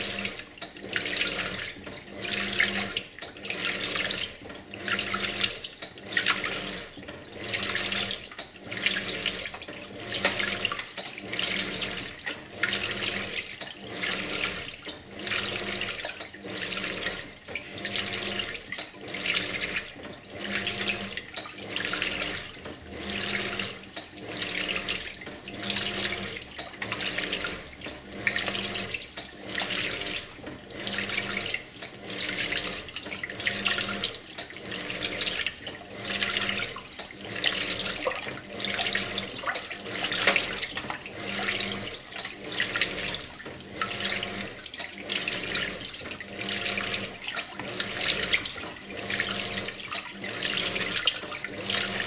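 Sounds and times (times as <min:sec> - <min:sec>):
water sloshing in washer: 0:00.0 - 0:52.0.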